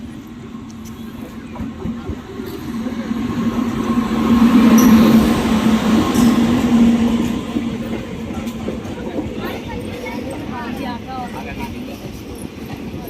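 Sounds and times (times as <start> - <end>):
train passing: 0.0 - 13.0
wheels rumbling on rails: 0.0 - 13.0.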